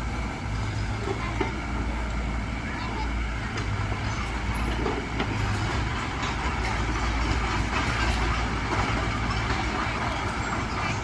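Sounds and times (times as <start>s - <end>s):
heavy diesel engine under load: 0.0s - 11.0s.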